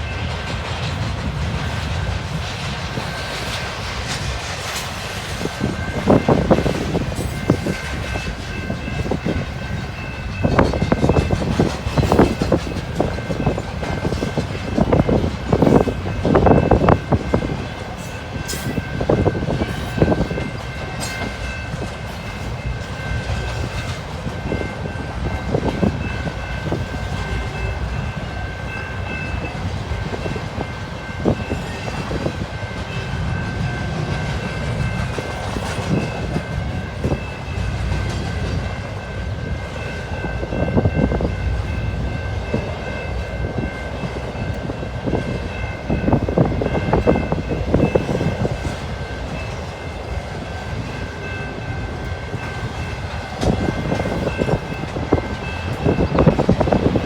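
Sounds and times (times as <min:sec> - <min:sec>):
rail joint clicks: 0:00.0 - 0:57.0
train wheels rumbling on rail: 0:00.0 - 0:57.0.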